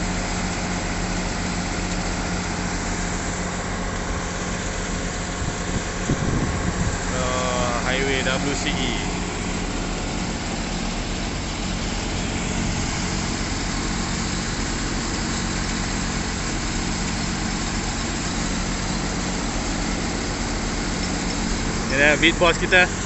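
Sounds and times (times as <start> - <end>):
piling rig engine running: 0.0 - 23.0.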